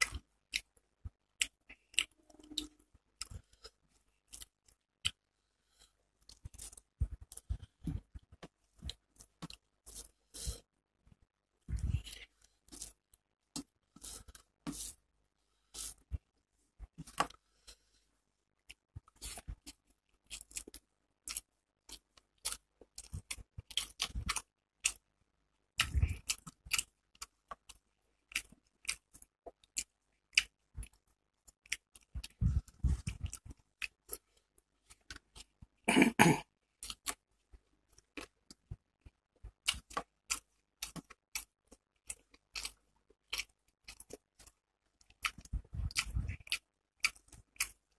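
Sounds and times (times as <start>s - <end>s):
person chewing food: 0.0s - 25.1s, 25.7s - 47.9s.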